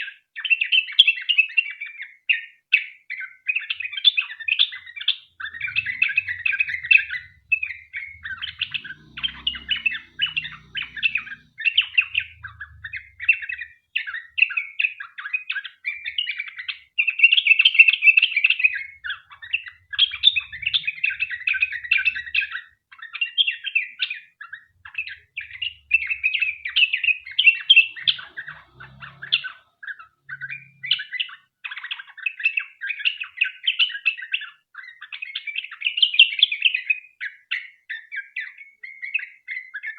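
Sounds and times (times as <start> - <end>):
bulbul singing: 3.2 - 36.9.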